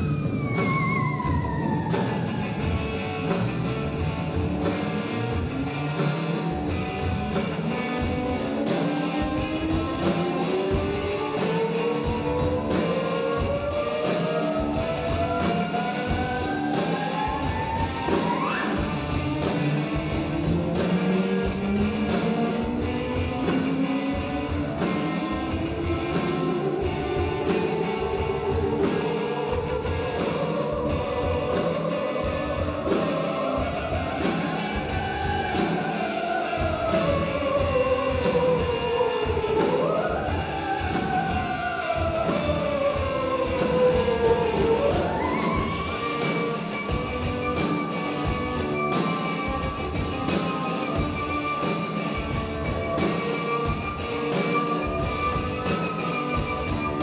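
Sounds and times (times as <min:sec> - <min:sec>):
theremin gliding upward: 0:00.0 - 0:04.3, 0:08.0 - 0:57.0
backing music with steady beat: 0:00.0 - 0:57.0.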